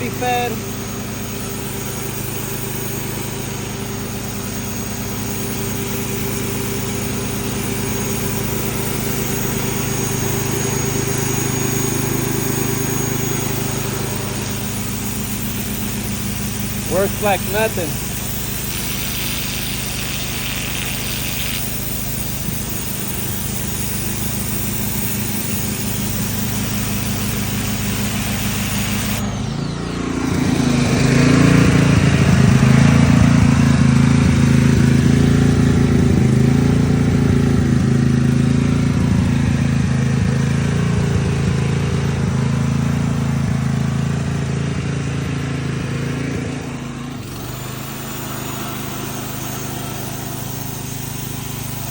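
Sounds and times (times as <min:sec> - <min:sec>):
portable generator running: 0:00.0 - 0:51.9
pressure washer motor and pump: 0:00.0 - 0:51.9.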